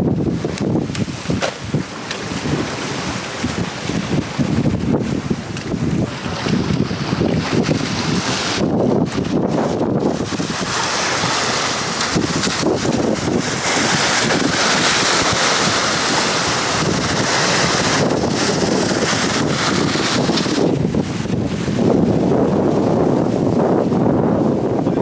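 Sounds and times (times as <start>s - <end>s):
sea surf: 0.0s - 25.0s
wind buffeting microphone: 0.0s - 25.0s.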